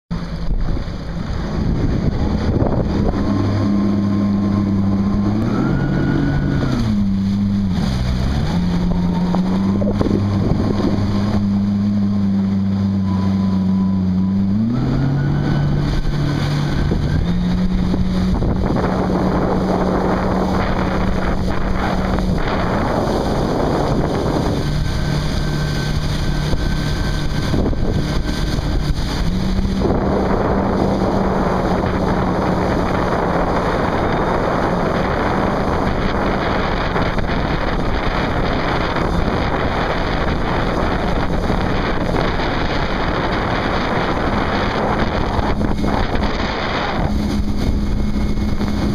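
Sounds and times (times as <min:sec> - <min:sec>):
motorboat engine humming: 0:00.1 - 0:48.9
wind buffeting microphone: 0:00.1 - 0:48.9.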